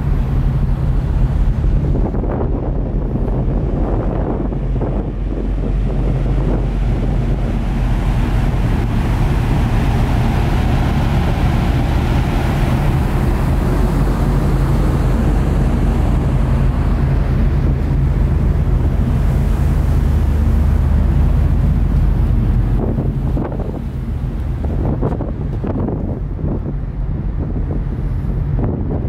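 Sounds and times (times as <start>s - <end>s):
ferry engines humming: 0.0s - 29.0s
wind on microphone: 0.0s - 29.0s.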